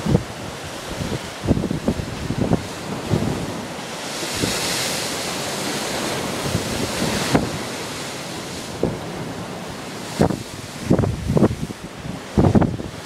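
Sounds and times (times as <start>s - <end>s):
waves breaking against seawall: 0.0s - 13.0s
wind buffeting microphone: 0.0s - 13.0s.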